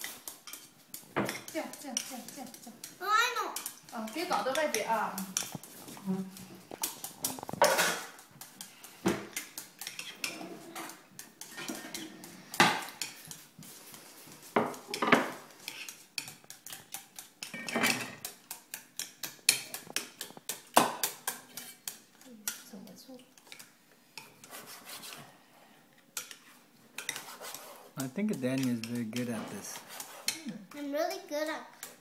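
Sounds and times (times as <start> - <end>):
spatula beating eggs in metal bowl: 0.0 - 25.4, 26.1 - 32.0.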